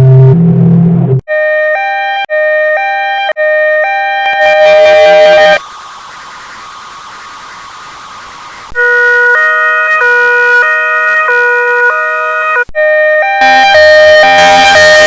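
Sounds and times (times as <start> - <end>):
two-tone ambulance siren: 1.3 - 15.0.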